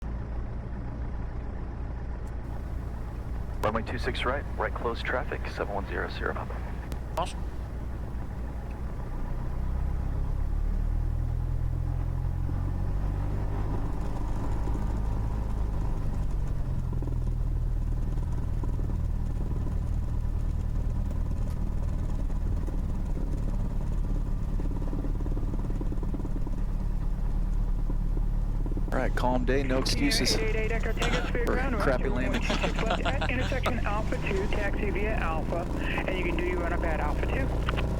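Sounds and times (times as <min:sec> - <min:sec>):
propeller plane engine running: 0:00.1 - 0:37.9.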